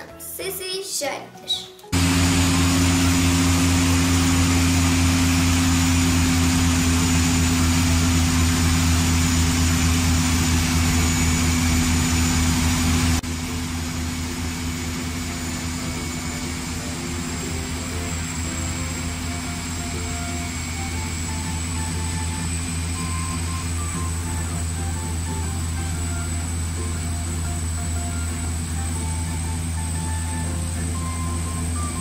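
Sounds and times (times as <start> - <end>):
floatplane engine drone: 1.9 - 32.0.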